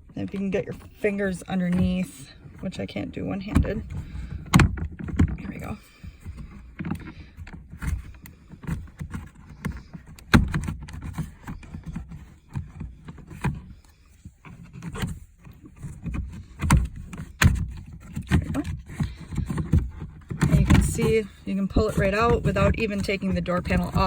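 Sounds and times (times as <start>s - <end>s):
plastic panel scraping and clicking: 0.0s - 24.0s.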